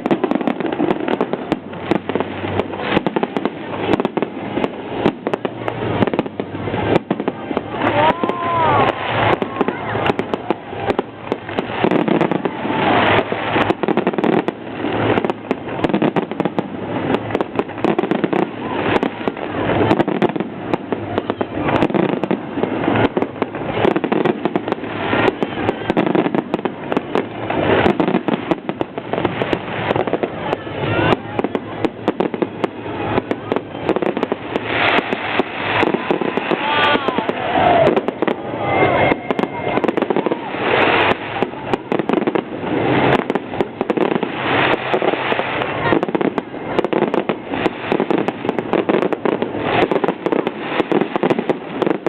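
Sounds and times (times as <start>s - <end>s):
fireworks bangs and crackling: 0.0s - 52.0s
fireworks whistling: 0.0s - 52.0s.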